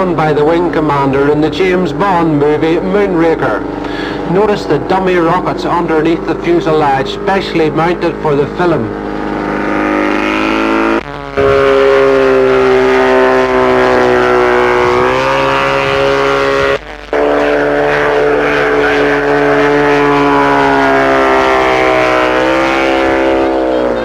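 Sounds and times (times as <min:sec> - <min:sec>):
autogyro engine and propeller droning: 0:00.0 - 0:24.0.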